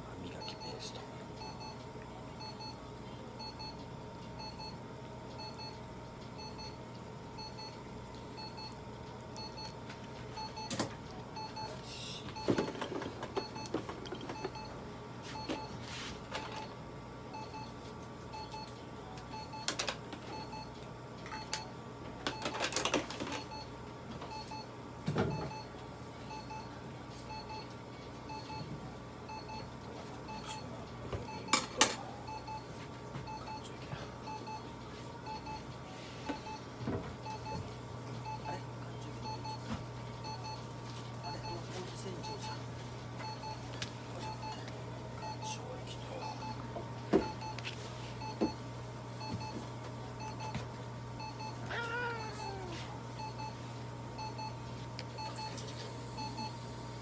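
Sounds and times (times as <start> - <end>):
constant hum: 0.0 - 57.0.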